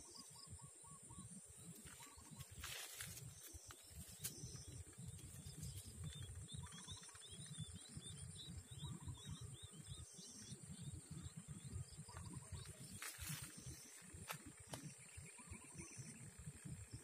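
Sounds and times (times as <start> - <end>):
bird chirping: 0.0 - 17.0
insects buzzing: 0.0 - 17.0.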